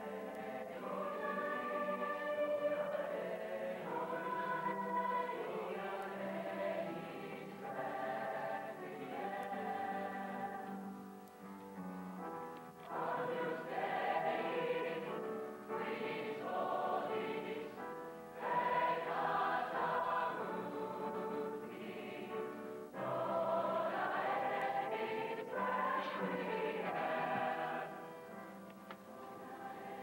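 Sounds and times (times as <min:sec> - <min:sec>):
mixed choir singing: 0:00.0 - 0:11.0, 0:12.8 - 0:30.0.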